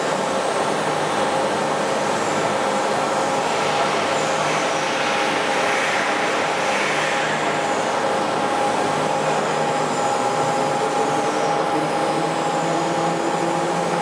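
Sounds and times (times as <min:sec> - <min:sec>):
milling machine humming: 0:00.0 - 0:14.0.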